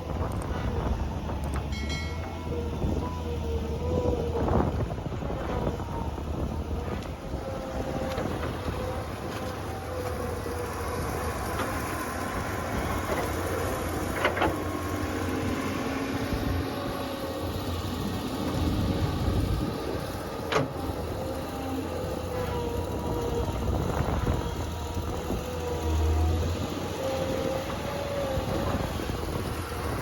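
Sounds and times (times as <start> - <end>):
heavy machine engine running: 0.0 - 30.0.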